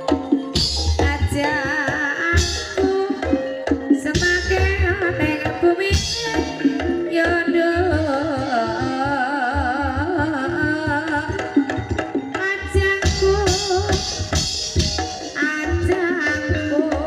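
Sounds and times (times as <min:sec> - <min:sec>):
person singing with vibrato: 0:00.0 - 0:14.5
gamelan music: 0:00.0 - 0:17.0.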